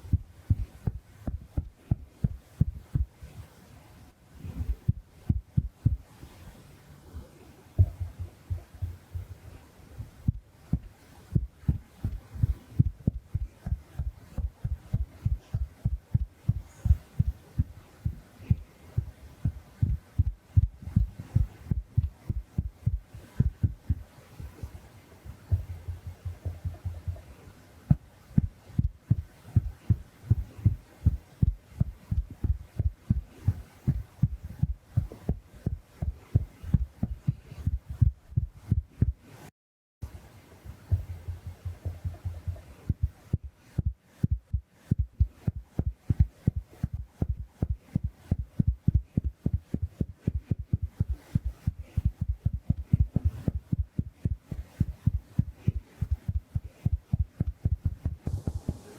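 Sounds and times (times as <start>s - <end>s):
sponge patting on microphone: 7.8s - 39.5s, 40.7s - 58.9s.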